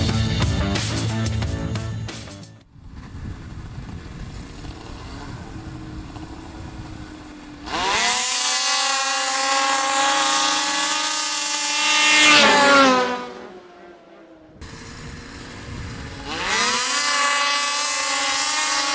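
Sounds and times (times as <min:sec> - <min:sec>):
snowmobile engines revving: 0:03.0 - 0:18.9.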